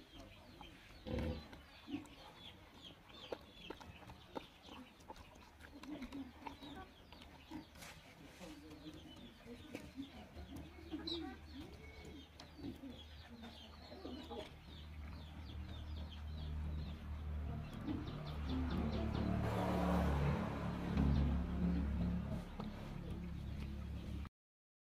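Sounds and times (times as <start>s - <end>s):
small birds chirping: 0.0s - 19.7s, 20.6s - 24.3s
chickens clucking: 0.0s - 24.2s.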